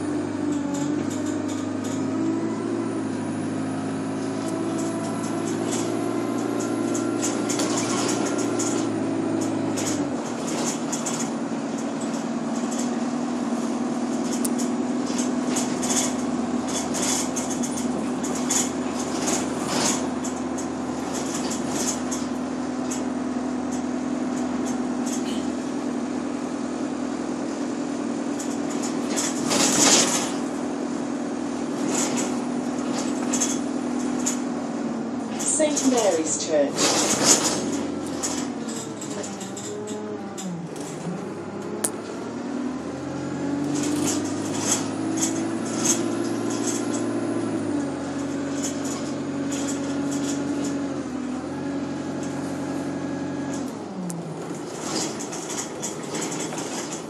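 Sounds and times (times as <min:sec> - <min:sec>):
bus body rattling: 0:00.0 - 0:57.0
bus engine drone: 0:00.0 - 0:57.0.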